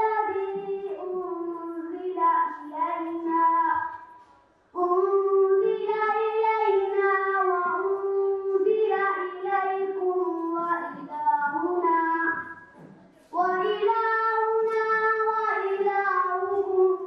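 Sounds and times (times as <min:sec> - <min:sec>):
girl chanting melodically: 0:00.0 - 0:04.2, 0:04.8 - 0:17.0.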